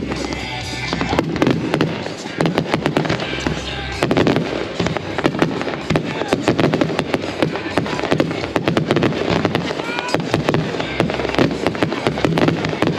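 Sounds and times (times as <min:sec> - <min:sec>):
fireworks bangs and crackling: 0:00.0 - 0:12.9.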